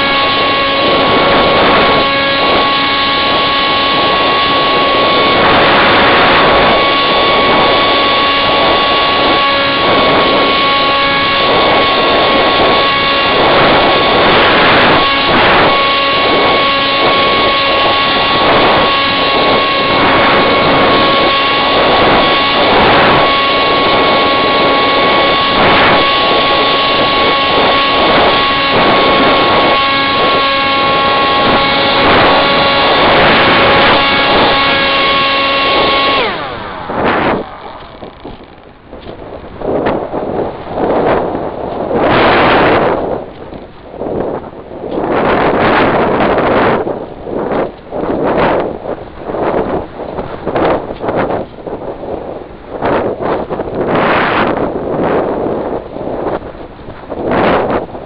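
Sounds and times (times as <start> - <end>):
airflow rushing over microphone: 0.0 - 58.0
electric motor and propeller whining: 0.0 - 58.0.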